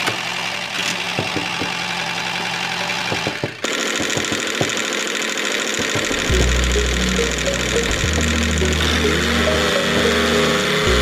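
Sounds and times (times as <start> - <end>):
small motor running: 0.0 - 11.0.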